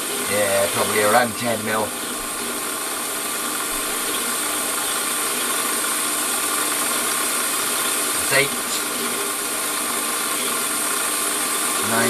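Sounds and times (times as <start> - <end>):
metal lathe machining hiss: 0.0 - 12.0
motor and gearing hum: 0.0 - 12.0.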